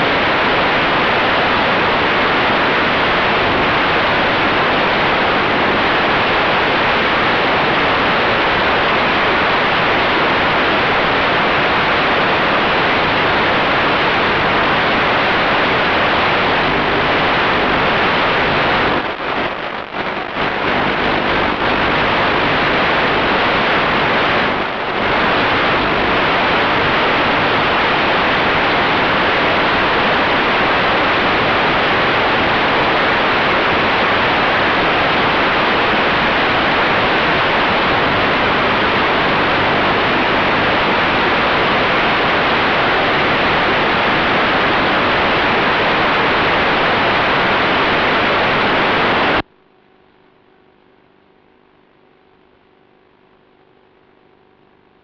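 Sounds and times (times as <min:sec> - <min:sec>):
faint hum: 0:00.0 - 0:55.0
loud static hiss: 0:00.0 - 0:55.0.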